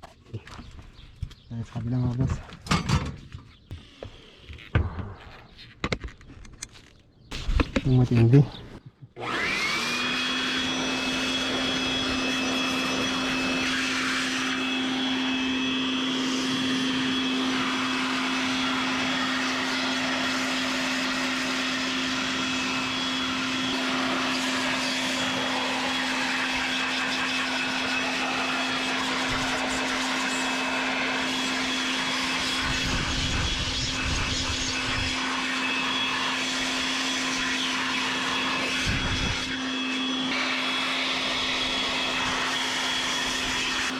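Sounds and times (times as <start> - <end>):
electric blower whining: 3.6 - 5.5, 9.2 - 43.9.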